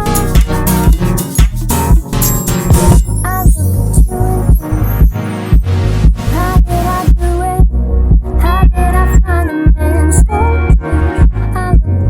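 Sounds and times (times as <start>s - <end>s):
pop music with beat bass and guitar: 0.0s - 12.0s.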